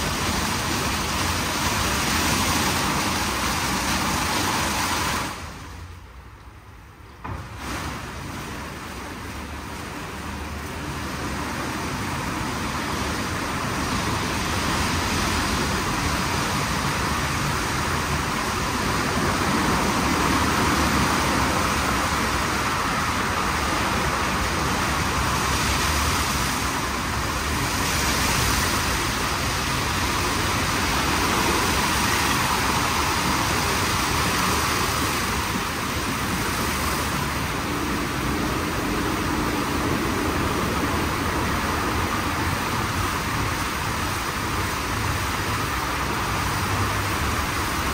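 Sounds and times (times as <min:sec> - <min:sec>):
car wash gantry rushing: 0:00.0 - 0:47.9.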